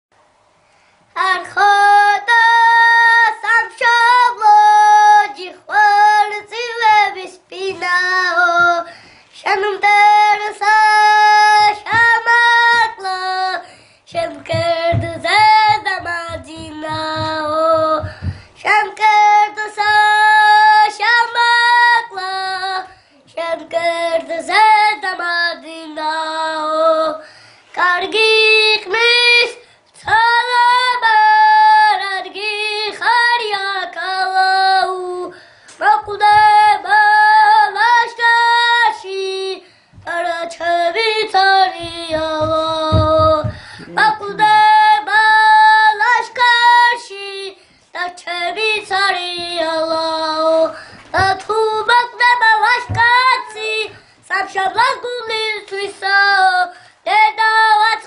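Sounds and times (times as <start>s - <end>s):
child singing: 1.2s - 27.2s, 27.8s - 58.0s.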